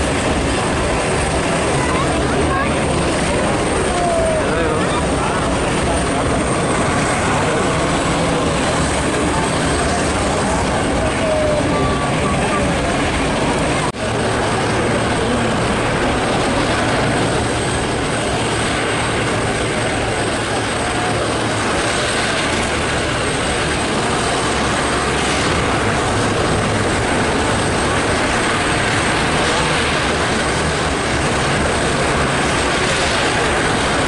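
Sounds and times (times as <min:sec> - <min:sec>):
helicopters droning: 0:00.0 - 0:34.0.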